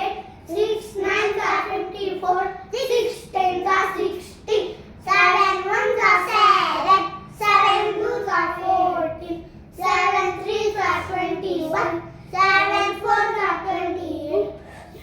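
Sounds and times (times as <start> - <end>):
children chanting in sing-song: 0.0 - 15.0.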